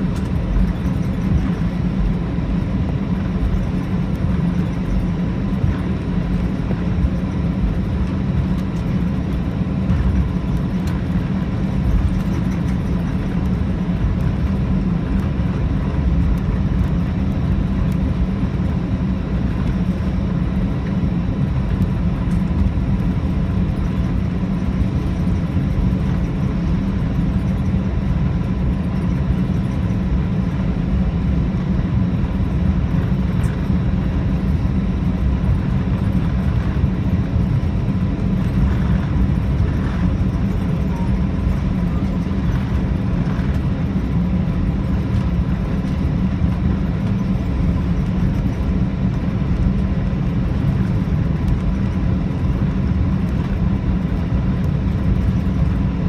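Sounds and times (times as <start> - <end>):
aircraft cabin low rumble: 0.0 - 56.0
faint steady whine: 0.0 - 56.0.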